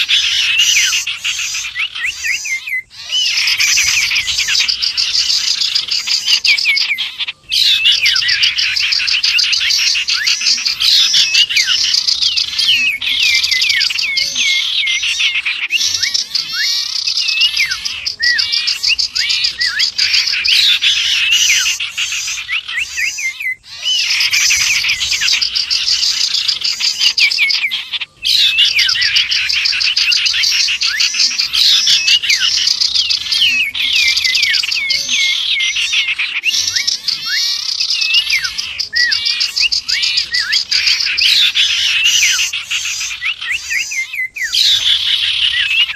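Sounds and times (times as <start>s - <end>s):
songbirds chirping and trilling: 0.0s - 45.9s.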